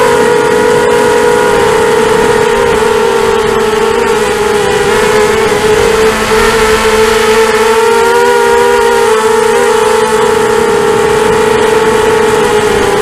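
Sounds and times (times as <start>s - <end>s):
drone motors whining: 0.0s - 13.0s
rushing air: 1.6s - 12.3s.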